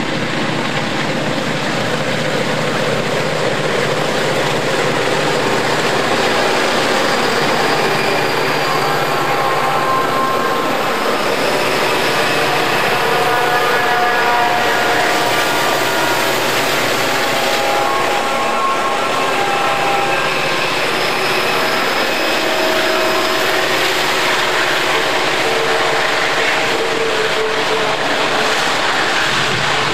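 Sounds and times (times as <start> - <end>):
freight train rumbling past: 0.0 - 29.9
train wheels squealing: 0.1 - 29.9.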